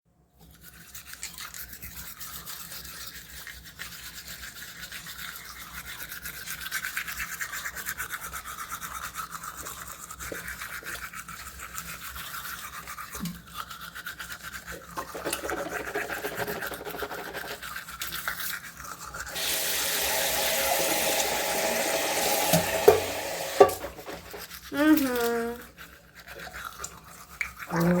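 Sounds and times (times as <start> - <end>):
toothbrush scrubbing teeth: 0.4 - 28.0.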